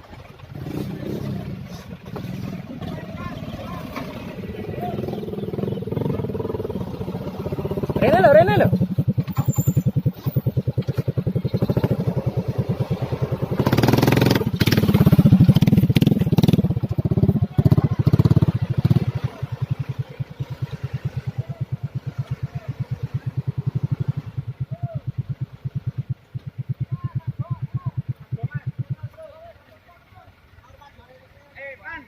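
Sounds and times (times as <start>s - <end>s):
diesel truck engine throbbing: 0.0s - 32.0s.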